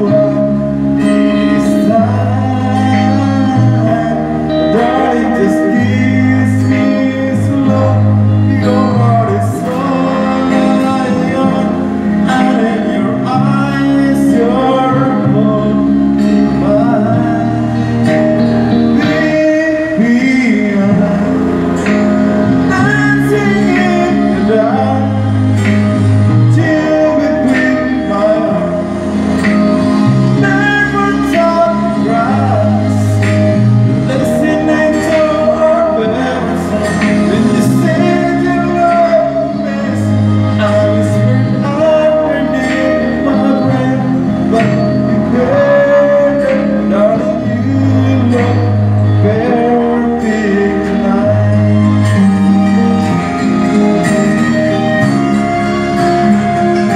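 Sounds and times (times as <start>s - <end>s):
acoustic guitar strumming: 0.0s - 56.9s
man singing: 0.0s - 56.9s.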